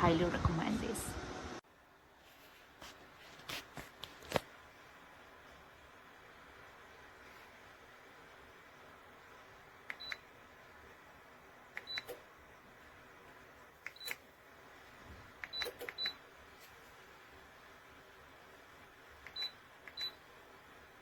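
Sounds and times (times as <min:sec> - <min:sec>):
faint steady hiss: 0:01.6 - 0:21.0.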